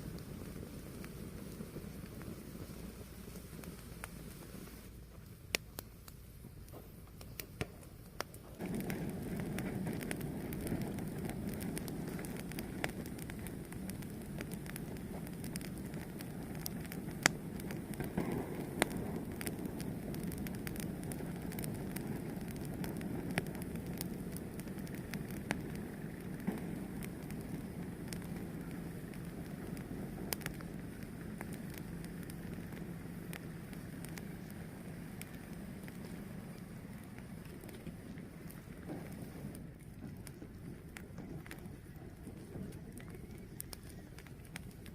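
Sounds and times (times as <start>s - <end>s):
fire crackling: 0.0s - 44.9s
flames rushing: 0.0s - 44.9s
sharp pops: 5.5s - 44.9s.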